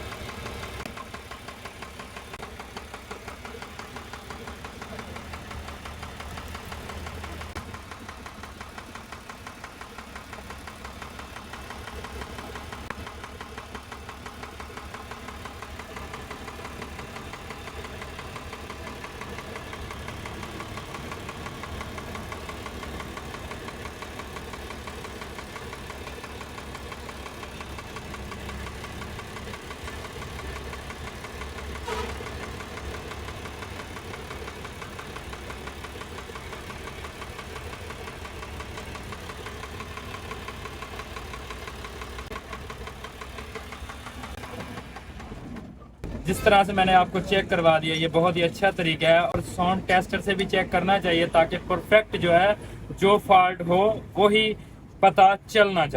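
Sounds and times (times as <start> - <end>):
diesel engine idling with knock: 0.0 - 55.9.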